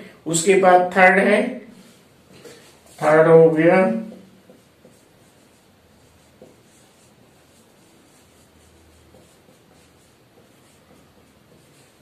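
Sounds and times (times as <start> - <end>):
marker pen writing on whiteboard: 1.8 - 12.0.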